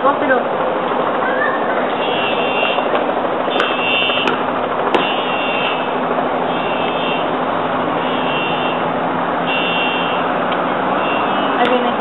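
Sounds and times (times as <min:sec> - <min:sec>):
distant helicopter running: 0:00.0 - 0:12.0.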